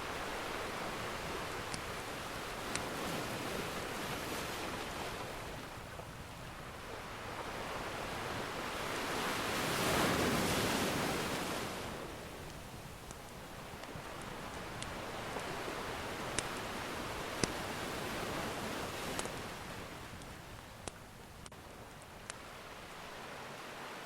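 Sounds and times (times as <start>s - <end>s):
faint fire crackles: 0.0s - 23.9s
ocean surf washing: 0.0s - 24.0s.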